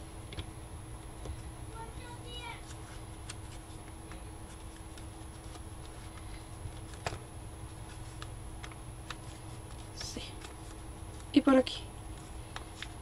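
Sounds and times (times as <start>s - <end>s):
paper handling: 2.0s - 13.0s.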